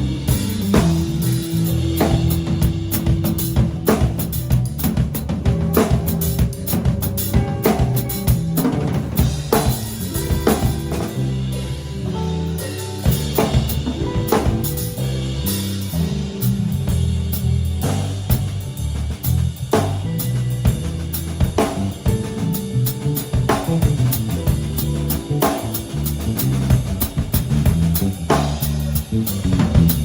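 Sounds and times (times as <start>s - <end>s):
drum kit: 0.0s - 30.0s
electric bass line: 0.0s - 30.0s
guitar: 0.0s - 30.0s.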